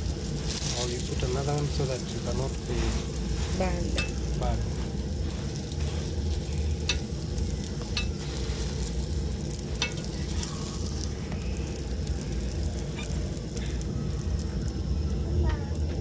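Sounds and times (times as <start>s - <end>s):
flatbread sizzling in oil: 0.0s - 16.0s.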